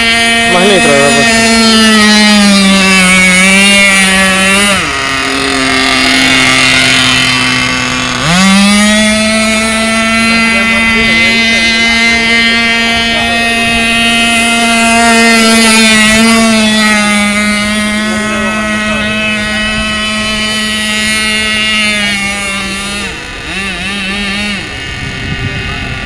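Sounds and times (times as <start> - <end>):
model boat engine whining: 0.0 - 26.0.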